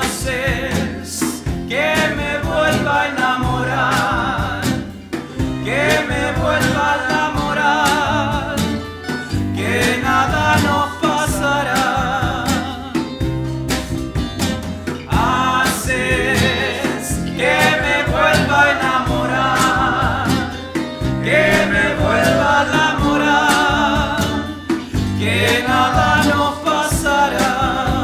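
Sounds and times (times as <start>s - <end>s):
person singing lead vocal: 0.0s - 13.2s, 15.1s - 28.0s
folk band playing: 0.0s - 28.0s.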